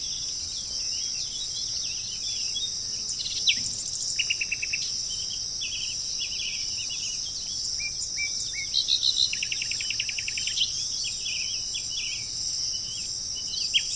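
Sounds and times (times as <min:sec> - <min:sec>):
high-pitched insect chorus: 0:00.0 - 0:13.9
songbirds chirping: 0:00.0 - 0:13.9
fast bird trill: 0:00.9 - 0:13.9.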